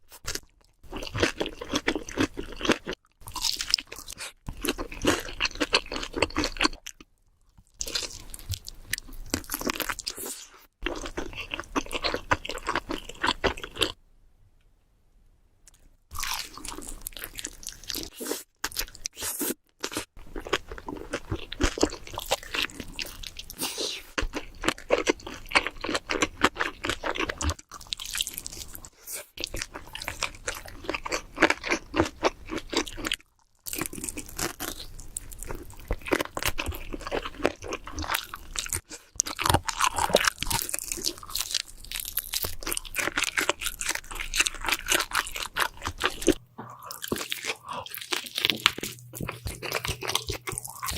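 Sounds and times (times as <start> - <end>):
crunching and chewing crispy food: 0.1 - 14.0, 15.7 - 50.9.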